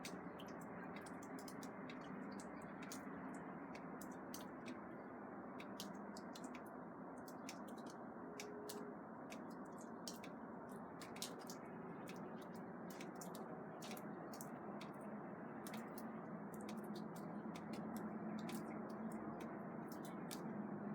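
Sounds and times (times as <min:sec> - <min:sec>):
water dripping: 0:00.0 - 0:20.8.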